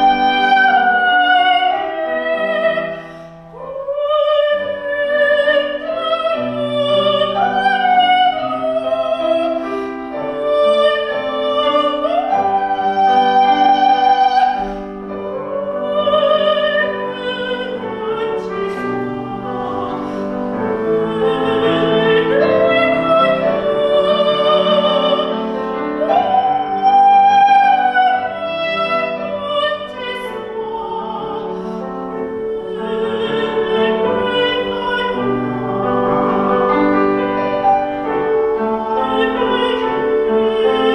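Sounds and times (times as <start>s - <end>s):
piano accompaniment: 0.0s - 40.9s
soprano singing: 0.0s - 40.9s.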